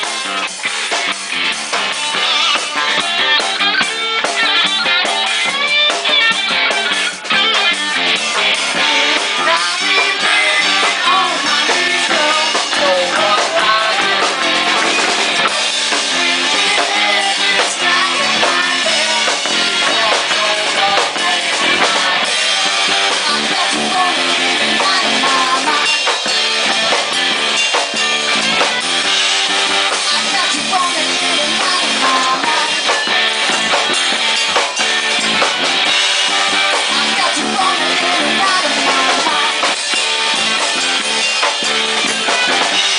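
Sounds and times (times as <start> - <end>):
bass guitar: 0.0 - 42.9
drum kit groove: 0.0 - 42.9
electric guitar: 0.0 - 42.9.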